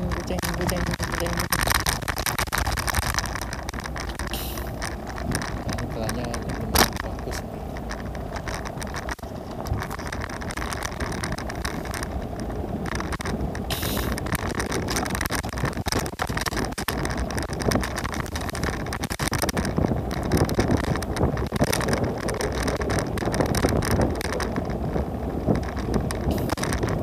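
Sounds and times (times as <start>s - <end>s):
scooter wheels rumbling on road: 0.0s - 27.0s
small rattles and knocks: 0.0s - 27.0s
wind buffeting microphone: 0.0s - 27.0s.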